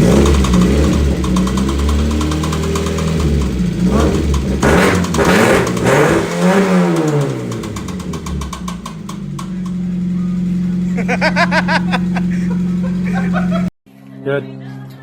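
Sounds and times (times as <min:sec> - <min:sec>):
car engine revving: 0:00.0 - 0:13.7
rapid even engine knocking: 0:00.0 - 0:13.7.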